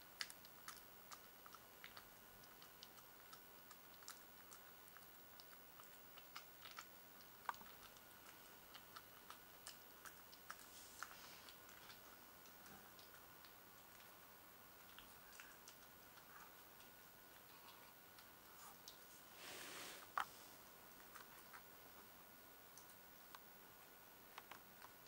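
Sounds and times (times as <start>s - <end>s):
puppy eating wet food: 0.0s - 19.5s, 20.1s - 25.0s.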